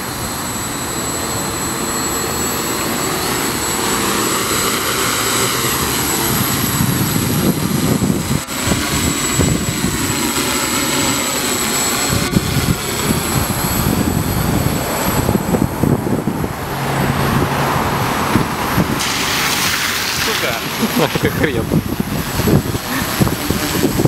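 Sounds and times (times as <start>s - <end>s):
drone motors buzzing: 0.0s - 24.0s
wind buffeting microphone: 3.7s - 24.0s.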